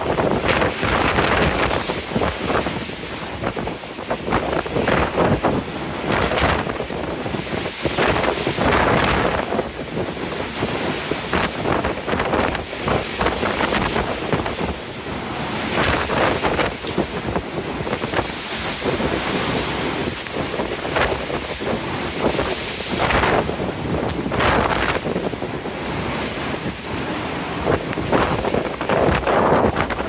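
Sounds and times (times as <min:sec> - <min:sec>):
ocean waves rushing: 0:00.0 - 0:30.0
wind buffeting microphone: 0:00.0 - 0:30.0.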